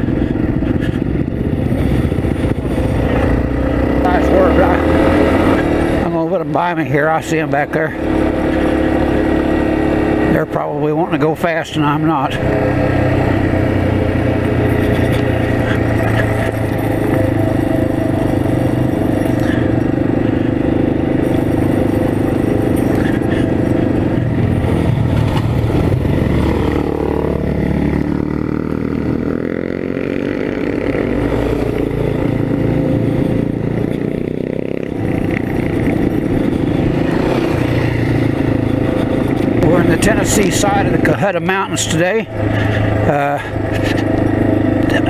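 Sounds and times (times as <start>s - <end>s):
off-road vehicle engine running: 0.0s - 45.0s.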